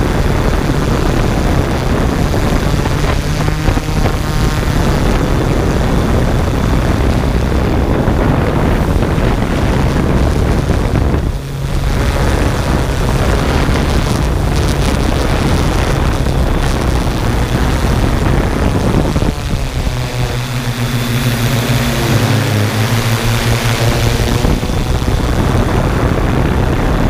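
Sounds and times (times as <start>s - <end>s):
drone propellers humming: 0.0s - 27.0s
wind buffeting microphone: 0.0s - 27.0s.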